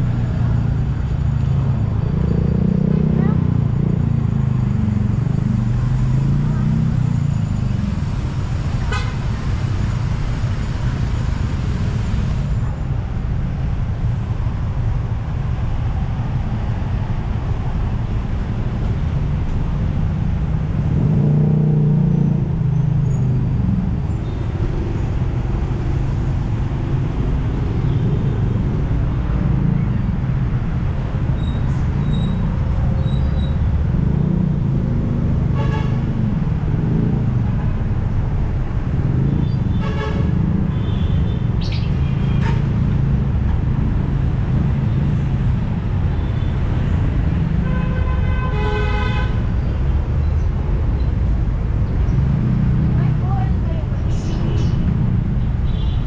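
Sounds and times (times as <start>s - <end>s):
loud vehicle passing: 0.0s - 12.7s, 19.1s - 55.6s
road traffic rumble: 0.0s - 56.0s.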